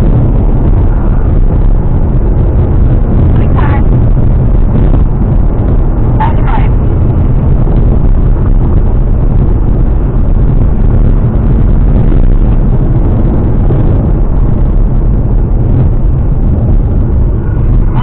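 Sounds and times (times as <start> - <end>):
car engine rumble: 0.0 - 18.0
road noise: 0.0 - 18.0.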